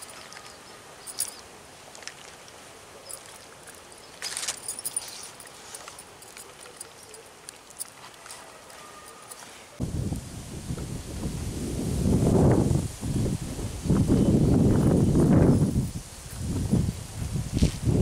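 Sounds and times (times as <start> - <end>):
outdoor background: 0.0 - 18.0.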